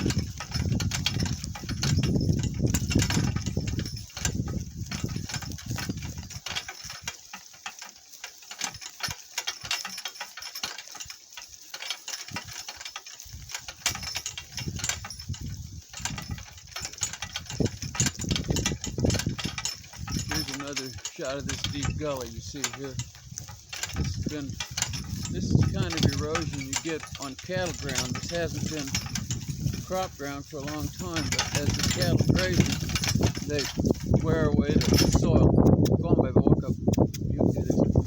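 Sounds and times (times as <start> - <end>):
cart wheels knocking and rattling: 0.0 - 38.0.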